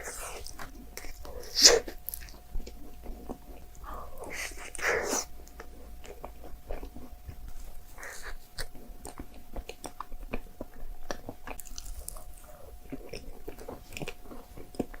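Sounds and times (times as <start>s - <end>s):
faint steady hum: 0.0s - 15.0s
person chewing food: 0.0s - 15.0s.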